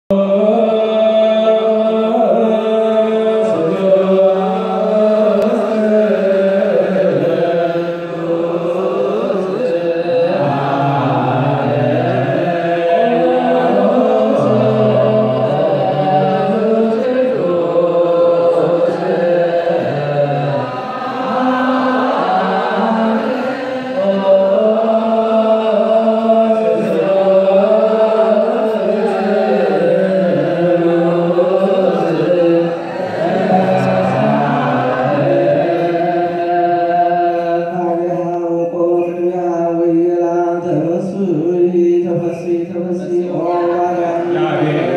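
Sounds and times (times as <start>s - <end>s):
voices chanting long notes: 0.2s - 38.4s, 43.3s - 44.9s.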